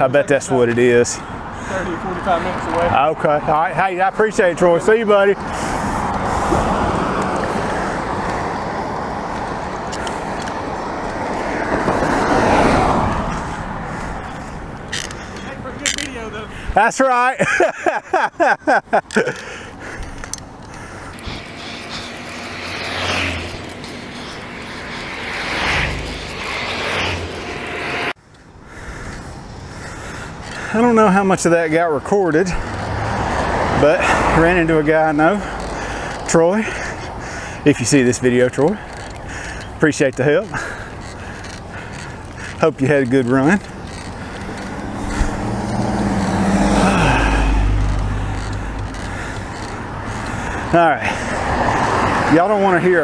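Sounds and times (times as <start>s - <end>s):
vehicles passing close by: 0.0s - 16.8s, 19.4s - 53.0s
steady traffic rush: 0.0s - 53.0s.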